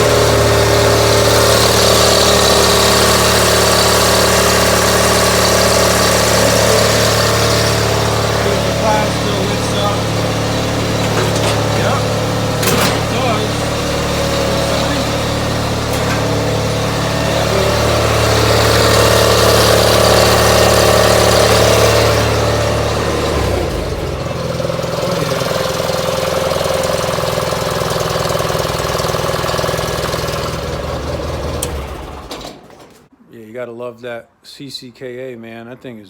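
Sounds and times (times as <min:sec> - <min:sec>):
tractor engine running: 0:00.0 - 0:33.1.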